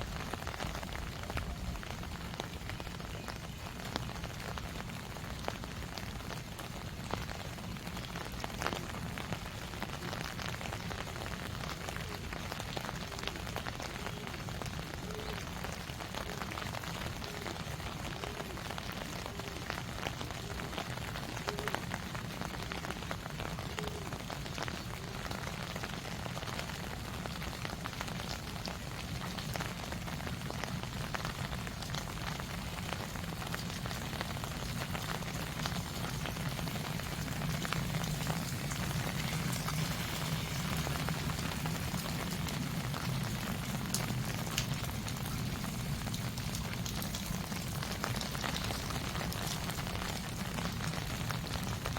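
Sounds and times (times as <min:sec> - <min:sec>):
raindrops ticking close by: 0:00.0 - 0:51.9
steady rain falling: 0:00.0 - 0:51.9.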